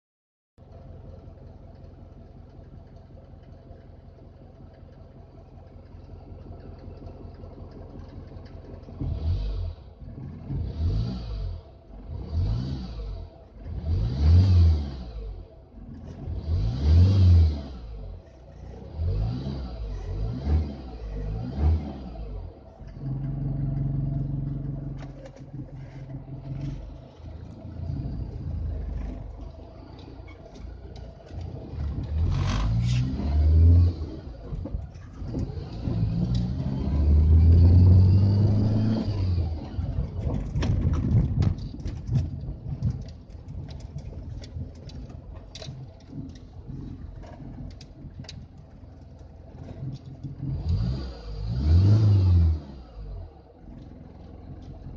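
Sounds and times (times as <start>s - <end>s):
van engine idling and revving: 0.6s - 54.9s.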